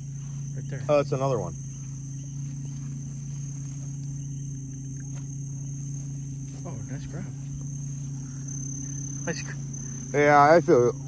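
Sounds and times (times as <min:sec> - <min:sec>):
low steady hum: 0:00.0 - 0:11.0
night insects trilling: 0:00.0 - 0:11.0.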